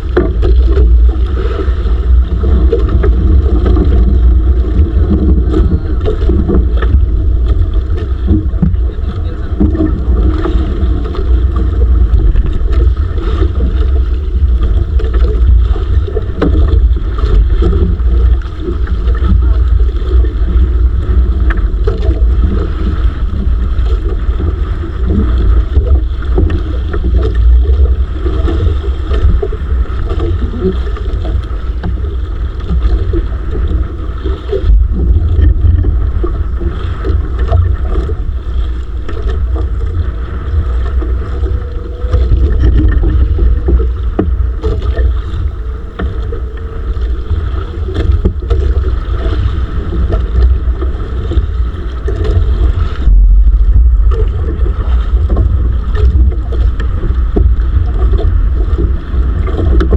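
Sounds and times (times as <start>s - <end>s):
boat engine rumble: 0.0s - 59.9s
wind buffeting microphone: 0.0s - 59.9s.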